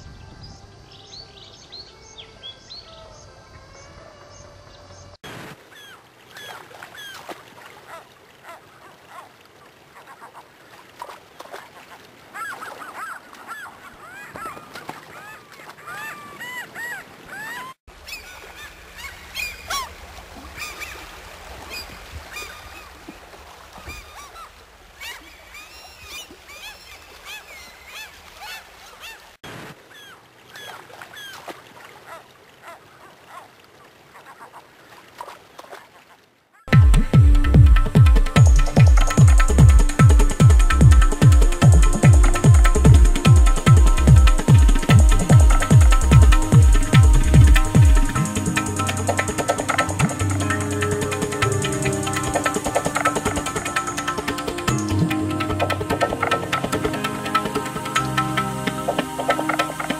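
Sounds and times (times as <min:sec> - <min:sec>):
gulls calling: 0:02.4 - 0:10.8, 0:11.5 - 0:34.9, 0:36.5 - 0:59.9.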